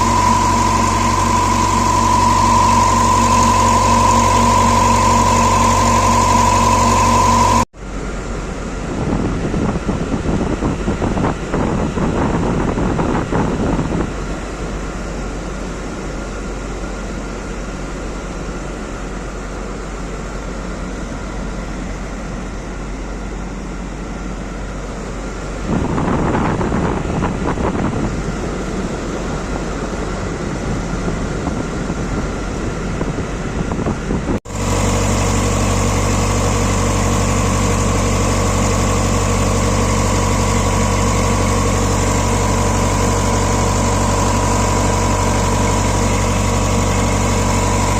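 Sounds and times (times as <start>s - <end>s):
bus engine idling: 0.0s - 9.1s, 13.6s - 47.9s
steady whine: 0.0s - 47.9s.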